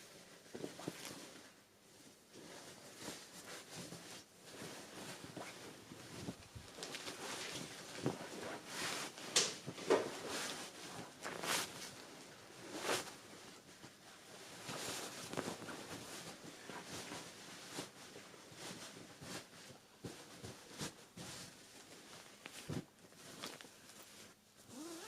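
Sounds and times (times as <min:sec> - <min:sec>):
household handling rustling: 0:00.0 - 0:24.7.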